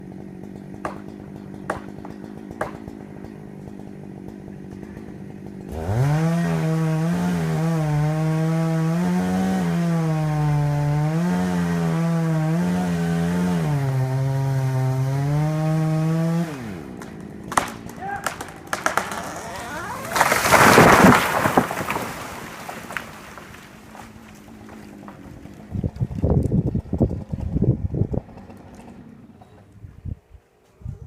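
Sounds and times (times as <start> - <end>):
chainsaw cutting into tree: 0.0 - 29.9.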